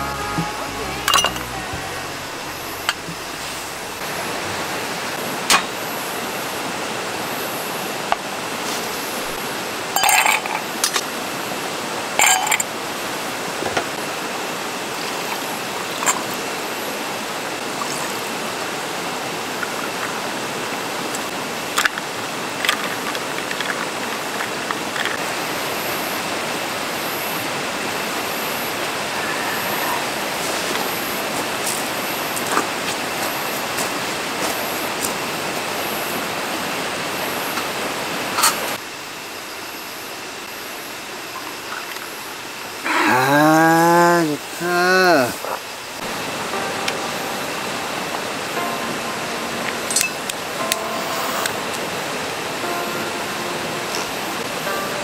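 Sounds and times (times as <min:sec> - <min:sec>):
stream rushing: 0:00.0 - 0:39.2, 0:44.0 - 0:55.0.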